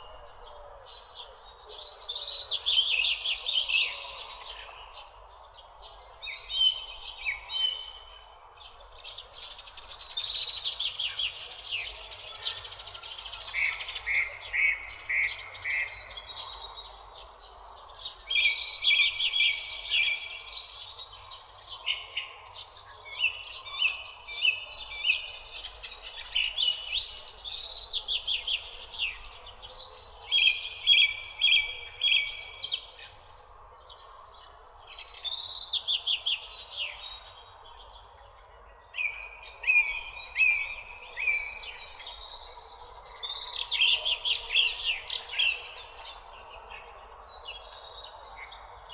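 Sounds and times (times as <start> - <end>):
songbirds singing and chirping: 0.0 - 48.9.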